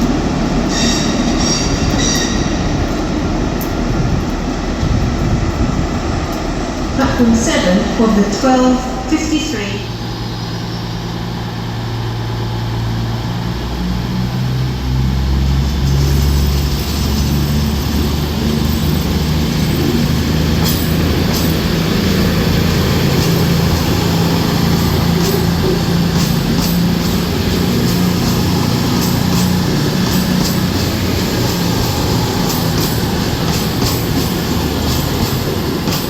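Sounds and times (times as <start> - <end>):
train engine running: 0.0 - 36.0.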